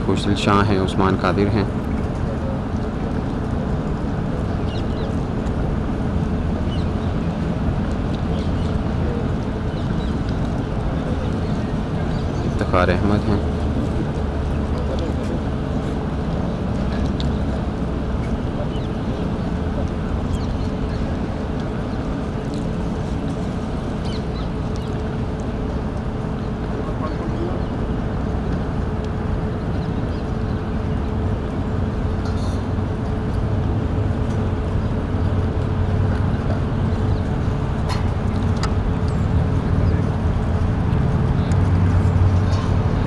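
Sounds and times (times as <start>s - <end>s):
constant hum: 0.0s - 43.0s
low drone: 0.0s - 43.0s.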